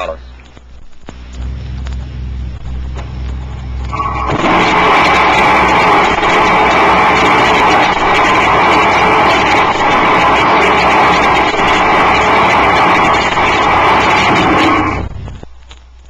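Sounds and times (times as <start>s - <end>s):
rocket engine roaring: 1.0s - 15.4s.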